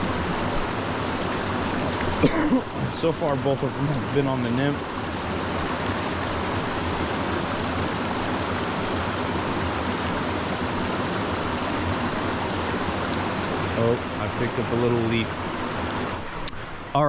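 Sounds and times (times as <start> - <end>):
creek rushing over rocks: 0.0 - 17.0.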